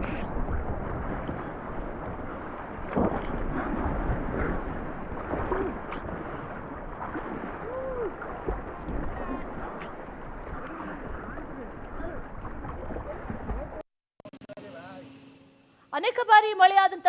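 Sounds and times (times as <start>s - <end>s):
whitewater rushing and splashing: 0.0s - 13.8s
wind buffeting microphone: 0.0s - 13.8s.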